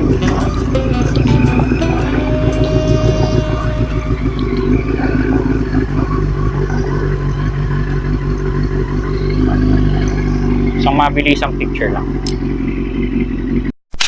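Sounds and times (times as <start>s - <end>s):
motorcycle engine running: 0.0s - 13.7s.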